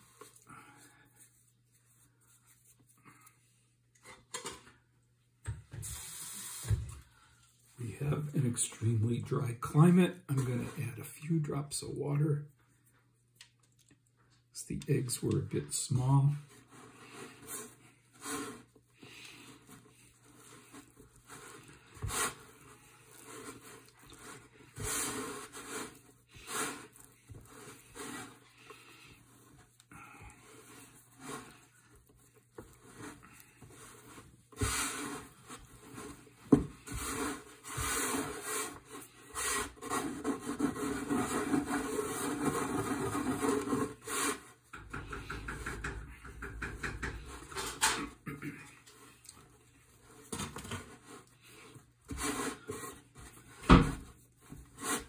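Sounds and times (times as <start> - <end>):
hands kneading dough on wood: 0.0 - 4.3, 12.7 - 55.0.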